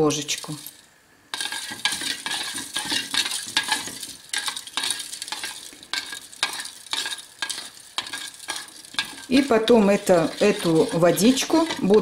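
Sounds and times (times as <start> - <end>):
teaspoon stirring in glass bowl: 1.4 - 12.0.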